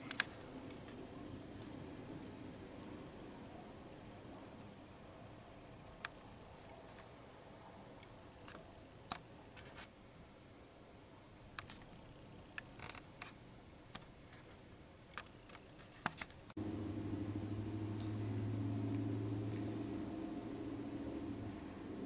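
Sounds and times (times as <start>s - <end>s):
steady low hum: 0.0s - 15.8s, 16.4s - 22.0s.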